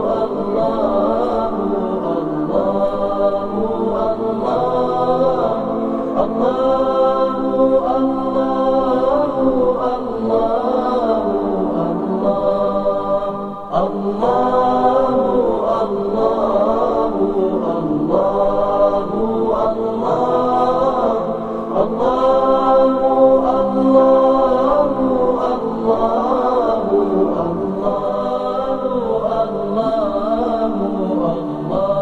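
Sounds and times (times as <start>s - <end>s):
person chanting long sliding phrases: 0.0s - 32.0s.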